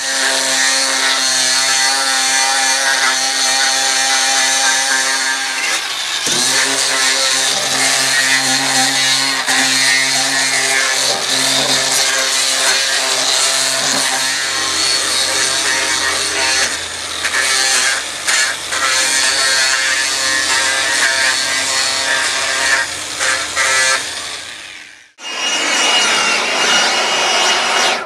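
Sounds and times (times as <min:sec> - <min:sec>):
grinder sanding wood: 0:00.0 - 0:24.9.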